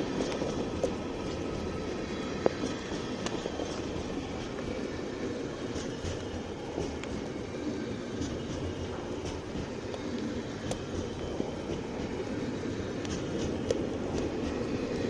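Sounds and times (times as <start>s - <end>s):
freight train rumbling past: 0.0s - 15.0s
train wheel clicks: 0.0s - 15.0s.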